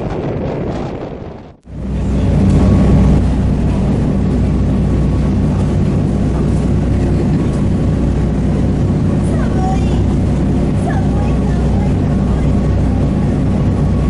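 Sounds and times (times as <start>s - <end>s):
ferry engines droning: 1.6s - 14.0s.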